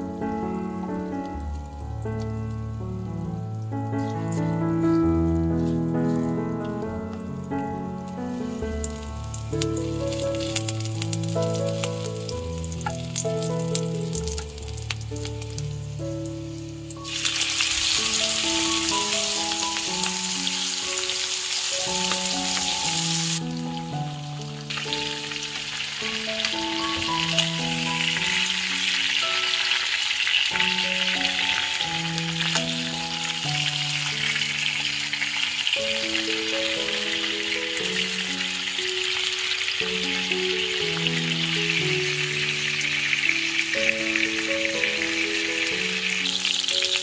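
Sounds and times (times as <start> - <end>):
chicken sizzling in a pan: 0.0 - 47.0
soft background music: 0.0 - 47.0.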